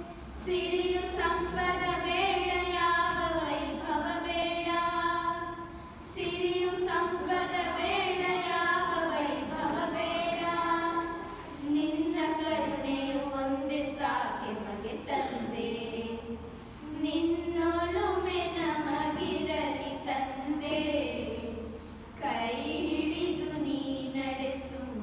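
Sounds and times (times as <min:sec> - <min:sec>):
girls singing in unison: 0:00.0 - 0:25.0.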